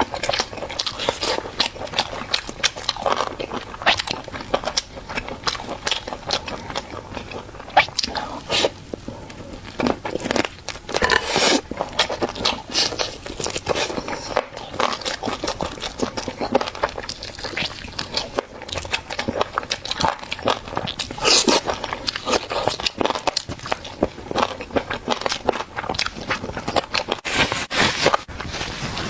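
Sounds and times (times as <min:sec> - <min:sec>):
food chewing and crunching: 0:00.0 - 0:29.0.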